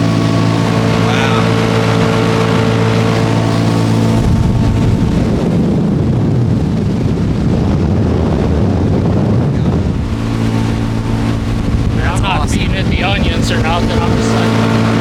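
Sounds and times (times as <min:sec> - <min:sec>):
outboard motor: 0:00.0 - 0:15.0
wind buffeting microphone: 0:00.0 - 0:15.0.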